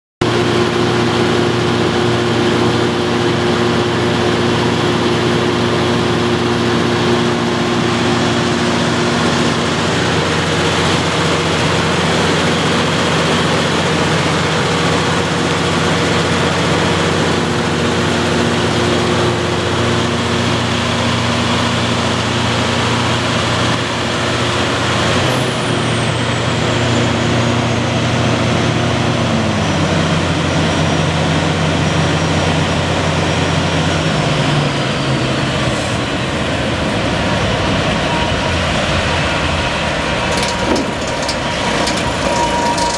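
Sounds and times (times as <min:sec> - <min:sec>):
high whine: 0:00.2 - 0:28.4, 0:34.6 - 0:42.9
diesel generator running: 0:00.2 - 0:42.9.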